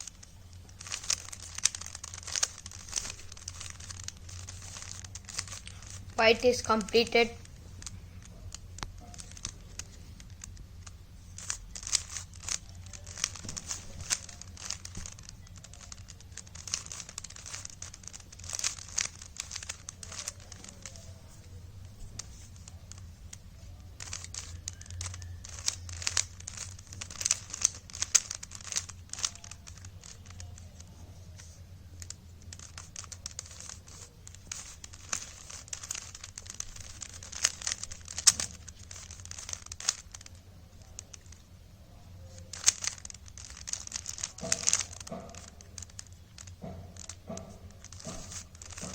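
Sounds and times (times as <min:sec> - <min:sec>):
plastic puzzle cube clicking: 0:00.0 - 0:41.6, 0:42.2 - 0:48.9
faint steady low hum: 0:00.0 - 0:48.9.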